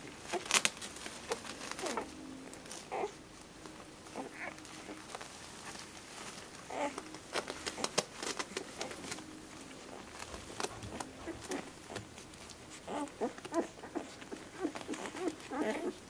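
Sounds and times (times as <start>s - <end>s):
puppies squeaking and whimpering: 1.3s - 16.0s.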